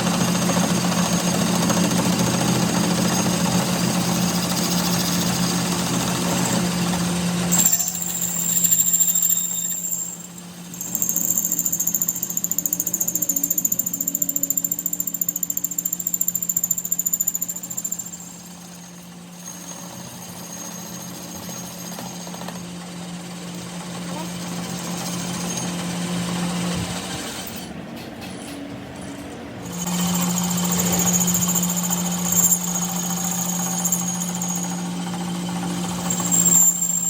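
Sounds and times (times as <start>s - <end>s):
power tool hammering: 0.0s - 27.7s, 29.6s - 37.0s.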